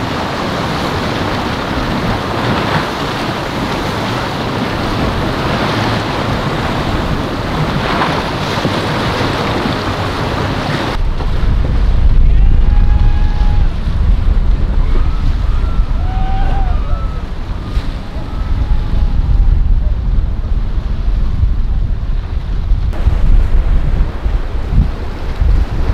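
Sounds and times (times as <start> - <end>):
rough surf rushing water: 0.0 - 25.9
wind buffeting microphone: 0.0 - 25.9.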